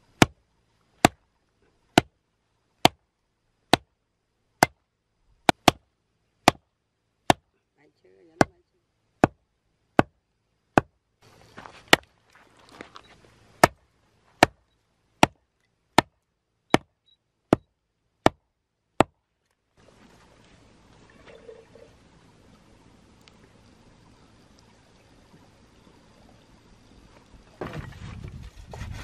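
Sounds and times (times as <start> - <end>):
faint outdoor hush: 0.0 - 29.0.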